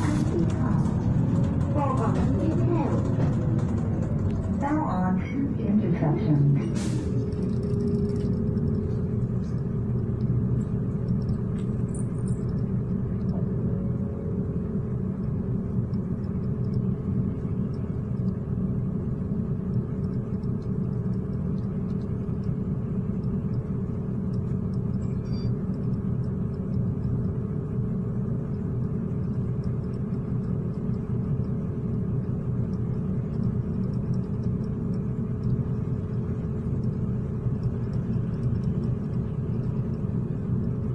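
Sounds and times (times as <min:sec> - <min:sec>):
bus engine rumble: 0:00.0 - 0:40.9.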